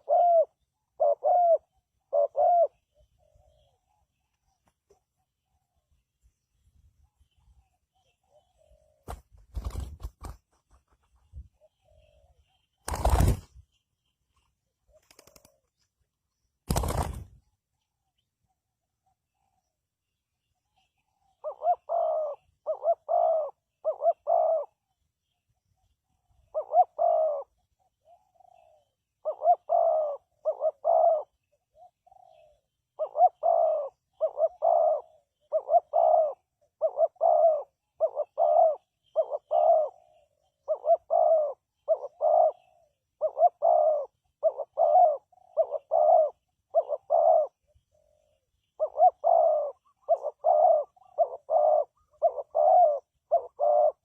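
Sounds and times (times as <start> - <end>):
dove cooing: 0.0 - 5.8, 7.9 - 10.4, 11.2 - 13.5, 14.8 - 15.8, 20.7 - 25.0, 25.8 - 54.0.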